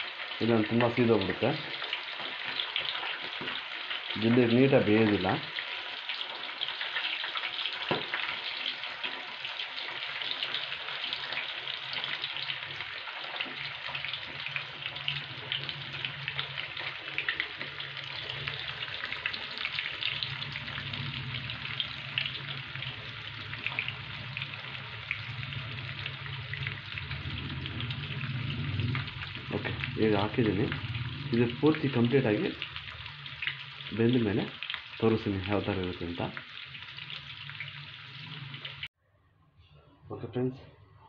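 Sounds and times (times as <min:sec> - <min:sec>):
chicken deep-frying in oil: 0:00.0 - 0:38.9.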